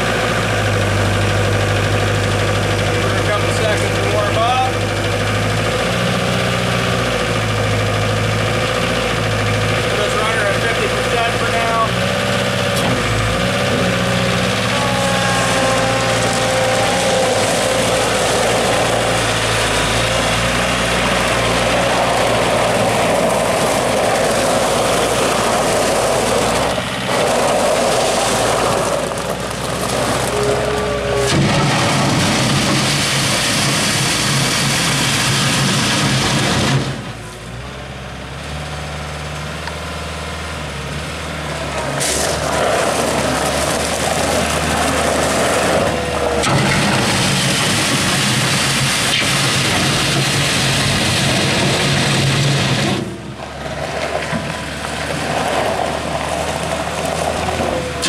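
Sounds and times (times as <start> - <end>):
diesel loader engine running: 0.0 - 58.0.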